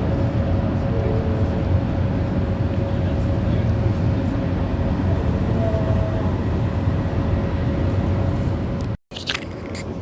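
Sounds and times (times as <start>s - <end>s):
helicopter engines and rotors rumbling: 0.0s - 10.0s.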